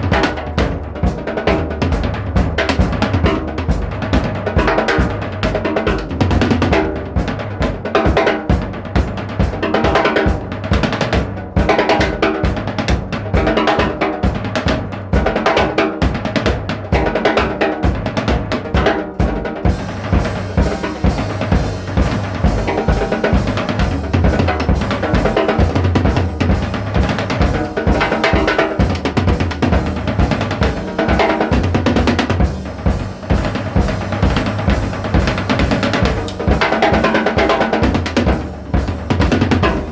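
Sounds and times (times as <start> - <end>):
drum kit beat with cymbals: 0.0 - 39.9.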